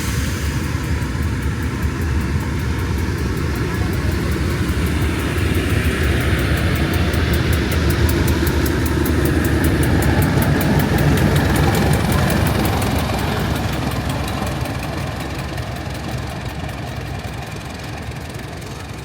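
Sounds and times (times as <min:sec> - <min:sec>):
diesel locomotive engine rumbling: 0:00.0 - 0:19.0
fast regular ticking: 0:00.0 - 0:19.0.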